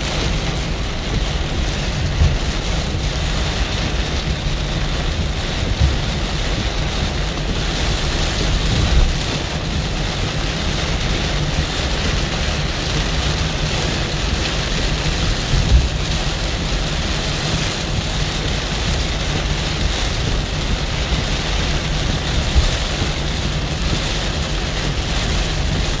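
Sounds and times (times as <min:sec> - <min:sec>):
heavy rain on a car: 0:00.0 - 0:26.0
tyres and engine rumble: 0:00.0 - 0:26.0.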